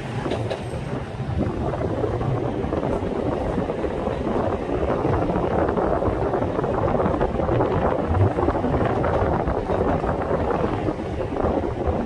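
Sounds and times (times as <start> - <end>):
tram running noise: 0.0 - 12.0
wind buffeting microphone: 0.0 - 12.0.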